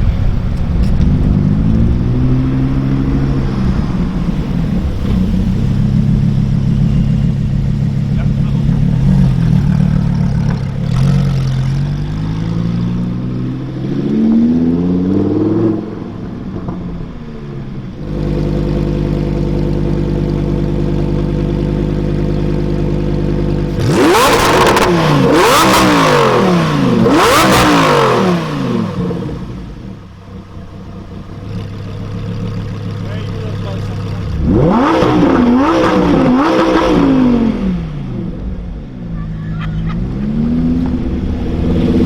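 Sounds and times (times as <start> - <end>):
sports car engine revving: 0.0 - 42.0.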